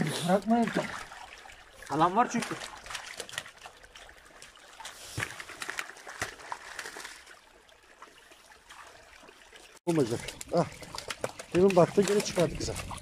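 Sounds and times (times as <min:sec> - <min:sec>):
shallow water splashing and trickling: 0:00.0 - 0:13.0.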